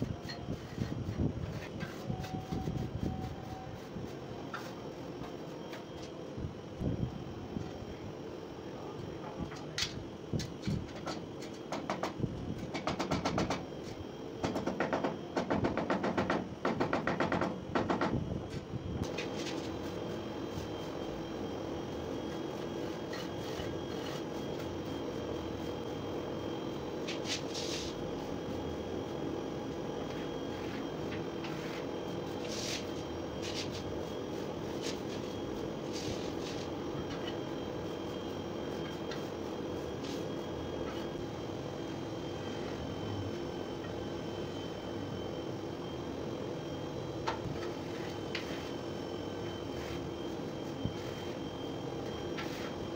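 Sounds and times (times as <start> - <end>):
steady mechanical hum: 0.0 - 52.9.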